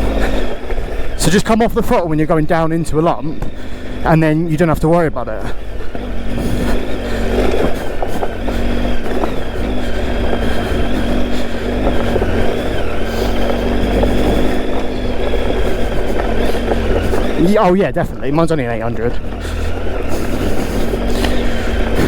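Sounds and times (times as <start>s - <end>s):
heavy low rumble: 0.0s - 22.0s
motorcycle engine running: 0.0s - 22.0s.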